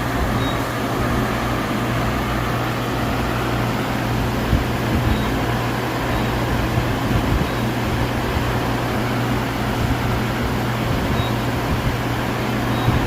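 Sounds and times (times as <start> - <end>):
milling machine hum and whirring: 0.0 - 13.0.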